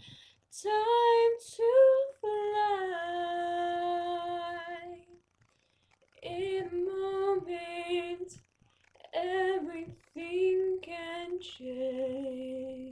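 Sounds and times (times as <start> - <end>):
woman singing unaccompanied: 0.0 - 5.2, 6.2 - 8.4, 9.0 - 12.9.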